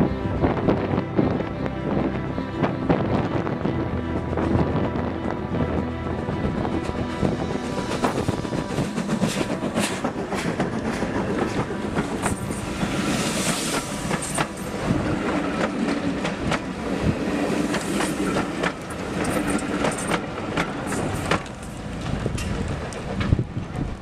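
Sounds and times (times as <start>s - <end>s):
steam locomotive passing: 0.4s - 24.0s.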